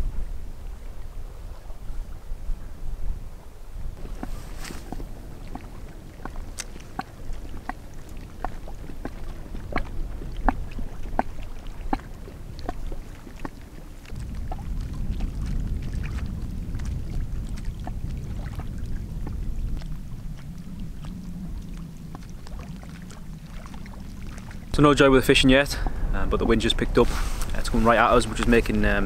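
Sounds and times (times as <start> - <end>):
low wind rumble: 0.0 - 29.0
small waves lapping on shore: 4.0 - 29.0.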